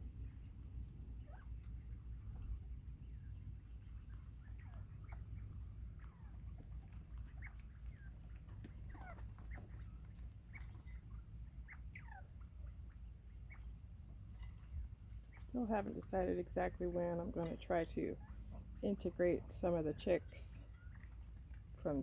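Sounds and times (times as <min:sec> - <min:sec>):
low steady rumble: 0:00.0 - 0:22.0
quail chicks chirping: 0:00.0 - 0:22.0.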